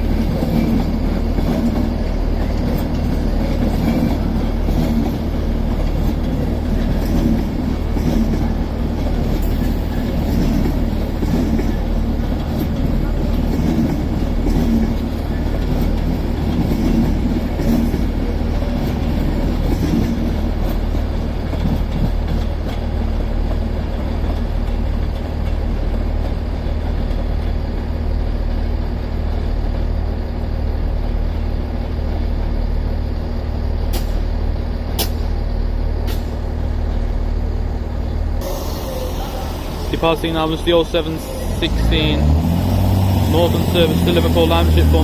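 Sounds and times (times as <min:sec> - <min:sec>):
train low rumble: 0:00.0 - 0:45.0.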